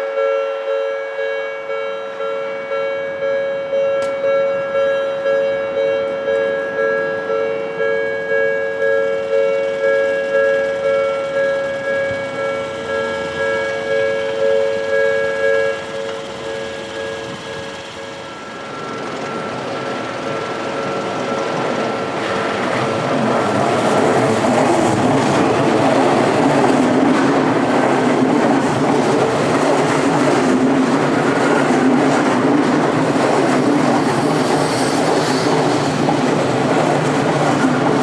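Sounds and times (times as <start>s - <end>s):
level-crossing two-tone warning bell: 0.0s - 38.0s
train running noise: 0.0s - 38.0s.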